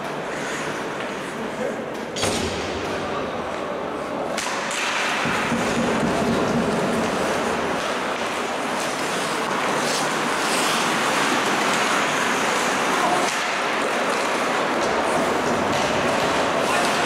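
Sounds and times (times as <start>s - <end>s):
skates scraping ice: 0.0s - 1.9s, 3.5s - 17.0s
faint clicks of sticks and puck: 0.0s - 17.0s.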